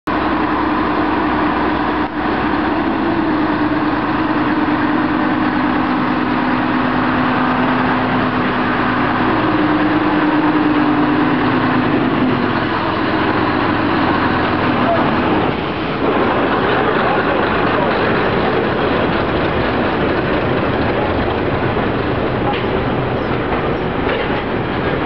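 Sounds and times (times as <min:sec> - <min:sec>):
diesel locomotive engine running: 0:00.1 - 0:25.0.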